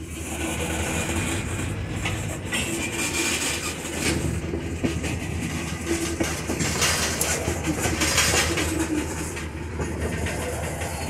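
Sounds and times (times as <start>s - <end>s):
train wheels rumbling on rail: 0.0s - 11.0s
wheels clicking over rail joints: 0.0s - 11.0s.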